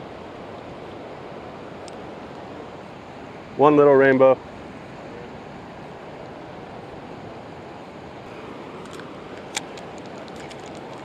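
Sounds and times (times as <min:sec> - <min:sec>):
river flowing: 0:00.0 - 0:11.0.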